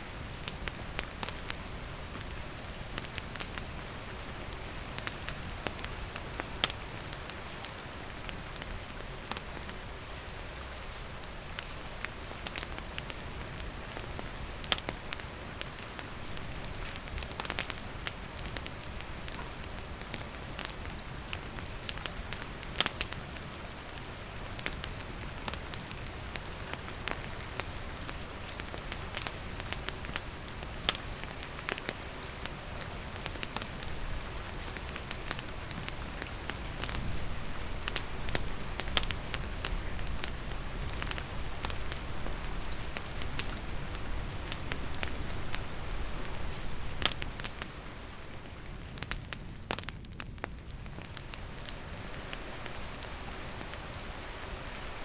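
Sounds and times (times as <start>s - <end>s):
campfire crackling: 0.0s - 55.0s
rain on foliage and wooden roof: 0.0s - 55.0s.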